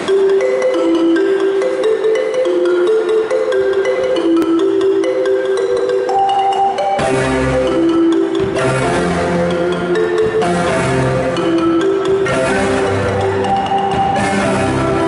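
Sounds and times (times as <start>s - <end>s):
marimbas playing melody: 0.0s - 15.0s.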